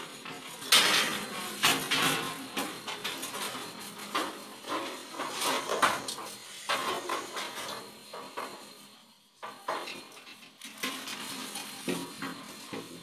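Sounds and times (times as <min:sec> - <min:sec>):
cables rustling and scraping in panel: 0:00.2 - 0:13.0.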